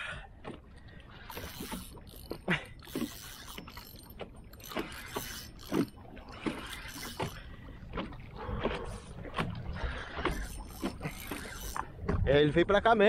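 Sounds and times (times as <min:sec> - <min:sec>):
water slapping against boat hull: 0:00.4 - 0:12.7.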